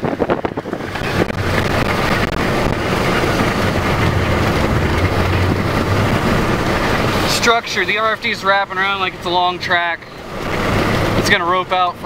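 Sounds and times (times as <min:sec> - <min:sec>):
car tyre and engine noise: 0:00.0 - 0:12.0.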